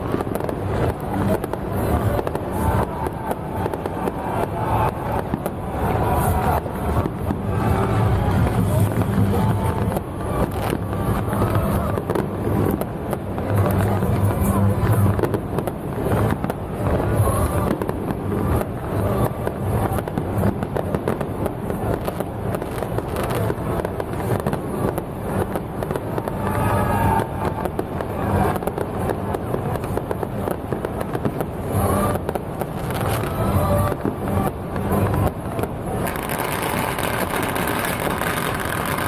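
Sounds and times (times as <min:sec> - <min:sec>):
fireworks crackling bangs: 0:00.0 - 0:39.0.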